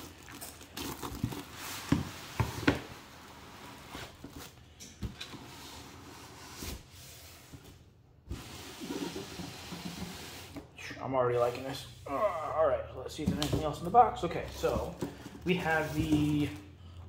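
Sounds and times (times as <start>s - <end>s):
cardboard and foam rustling: 0.0s - 10.7s, 13.1s - 16.7s.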